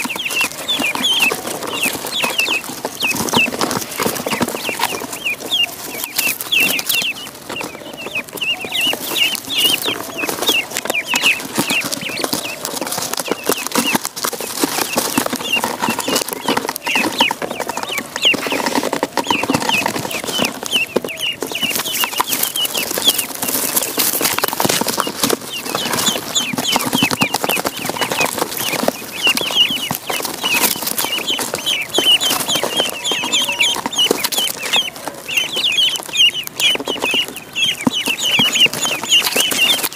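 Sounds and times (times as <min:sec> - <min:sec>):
ducklings peeping: 0:00.0 - 0:39.9
scratchy tapping and rustling: 0:00.0 - 0:39.9.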